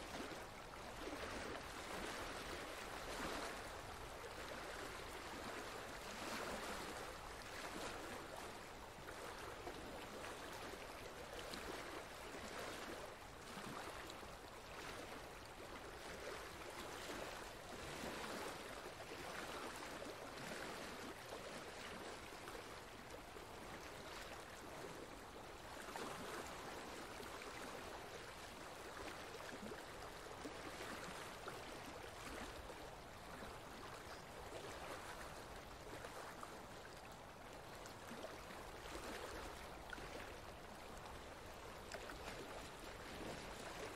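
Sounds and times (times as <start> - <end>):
faint running water: 0.0 - 43.9.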